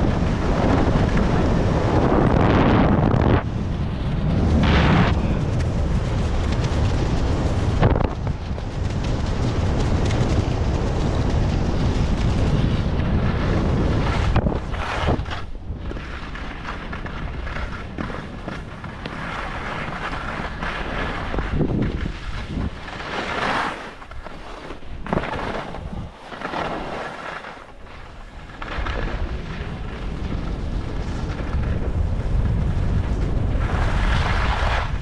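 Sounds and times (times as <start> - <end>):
skis scraping over snow: 0.0 - 35.0
wind noise on microphone: 0.0 - 35.0.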